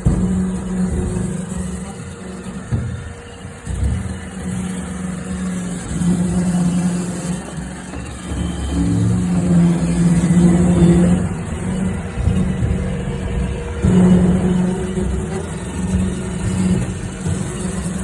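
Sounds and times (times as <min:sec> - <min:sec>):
robot vacuum motor hum: 0:00.0 - 0:18.0.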